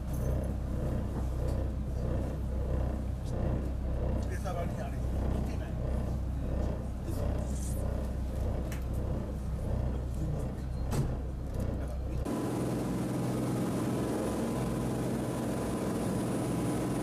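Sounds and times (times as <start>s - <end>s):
ferry engine rumbling: 0.0s - 17.0s.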